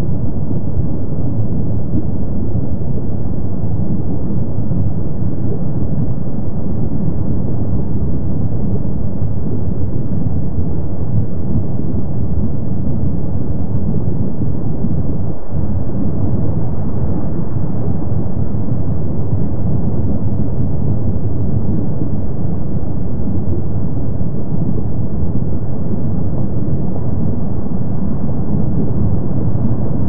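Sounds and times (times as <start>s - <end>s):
lava fountain rumbling roar: 0.0s - 30.0s.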